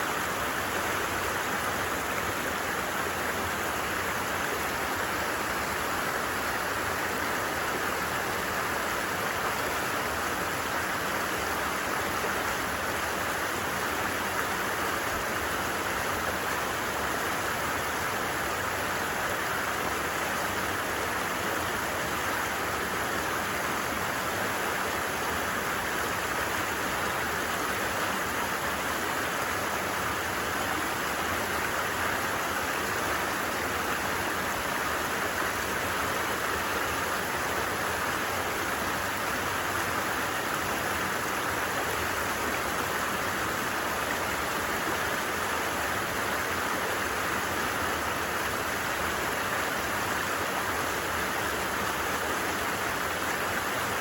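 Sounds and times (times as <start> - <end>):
stream flowing water: 0.0 - 54.0.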